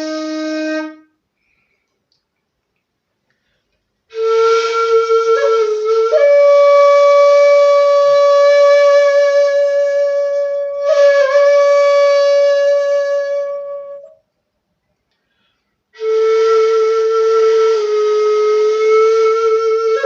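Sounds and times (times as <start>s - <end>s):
breathy bamboo flute notes: 0.0s - 1.8s, 4.1s - 14.2s, 15.3s - 20.0s.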